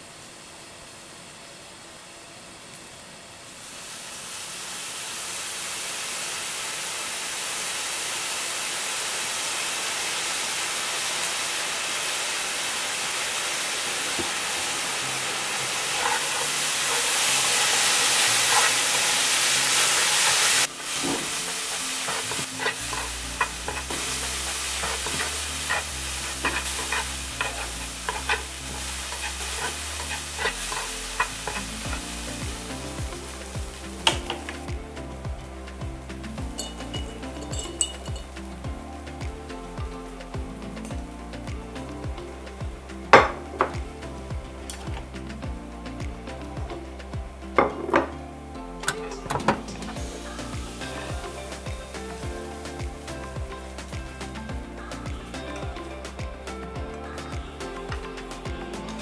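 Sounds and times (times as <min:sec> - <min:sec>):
noodles sizzling in a pan: 0:00.0 - 0:45.2, 0:48.8 - 0:59.0.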